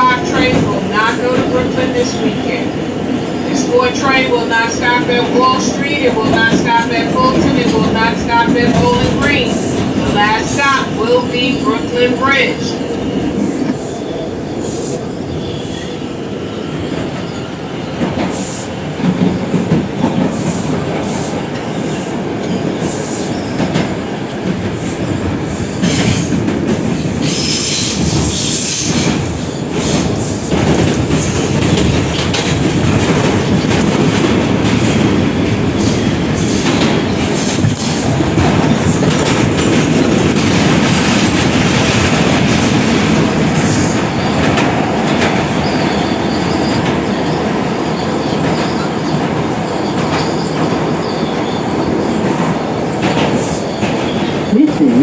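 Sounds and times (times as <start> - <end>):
wheels rumbling on rail: 0.0 - 16.0, 16.6 - 55.0.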